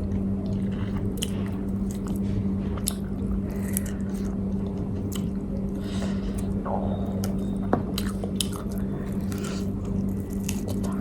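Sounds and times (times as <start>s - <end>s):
chewing and biting food: 0.0s - 11.0s
low hum: 0.0s - 11.0s.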